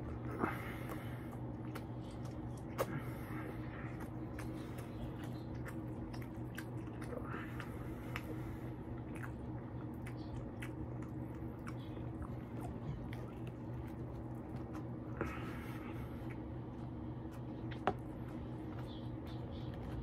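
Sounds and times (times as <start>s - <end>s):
chewing and biting sandwich: 0.0s - 20.0s
steady low hum: 0.0s - 20.0s.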